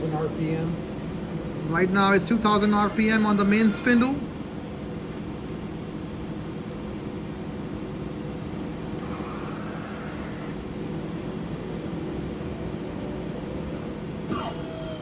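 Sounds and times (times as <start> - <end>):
lathe spindle humming: 0.0 - 14.3.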